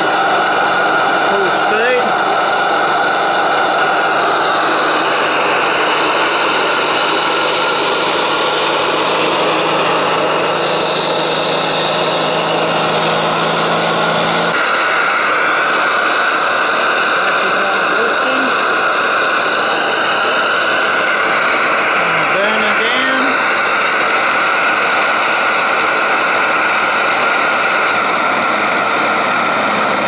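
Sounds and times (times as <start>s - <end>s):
low hum: 0.0s - 26.0s
steam engine hissing: 0.0s - 30.0s.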